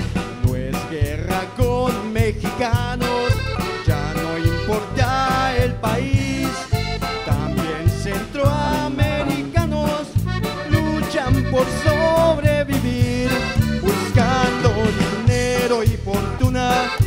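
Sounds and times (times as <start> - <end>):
button accordion melody: 0.0 - 17.0
drum kit rhythm: 0.0 - 17.0
electric bass: 0.0 - 17.0.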